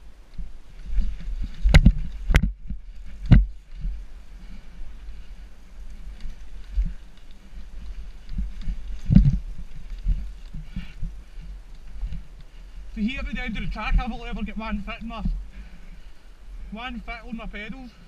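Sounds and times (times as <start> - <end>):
mountain bike rattling: 0.0 - 16.2
wind rumble on microphone: 0.0 - 16.7.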